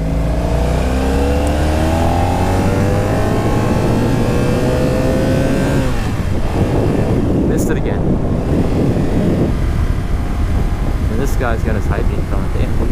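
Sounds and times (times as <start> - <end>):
motorcycle engine accelerating: 0.0 - 12.9.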